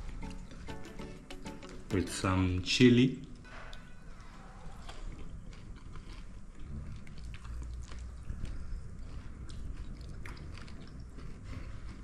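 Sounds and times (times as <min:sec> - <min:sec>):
person chewing food: 0:00.0 - 0:01.8, 0:03.2 - 0:12.0.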